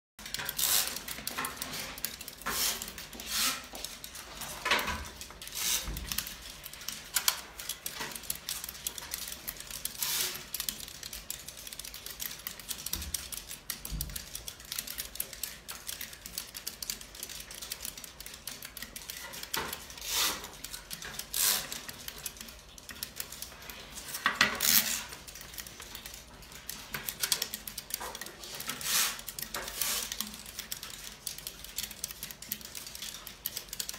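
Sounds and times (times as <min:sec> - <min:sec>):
abacus beads clicking: 0:00.2 - 0:33.9.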